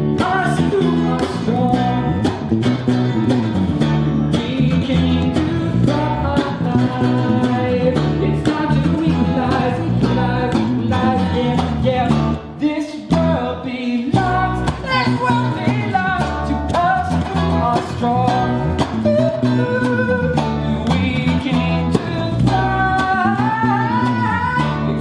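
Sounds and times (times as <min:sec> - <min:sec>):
guitar: 0:00.0 - 0:25.0.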